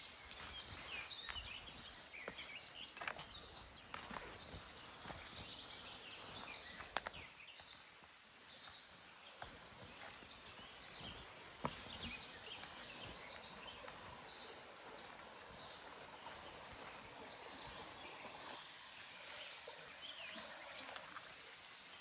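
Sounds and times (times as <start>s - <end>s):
stream running: 0.0s - 22.0s.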